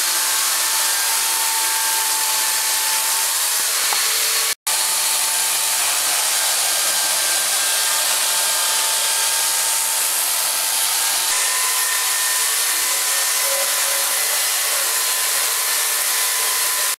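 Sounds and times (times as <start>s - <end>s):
chain cutting wood: 0.0s - 17.0s
electric chainsaw motor whine: 0.0s - 17.0s.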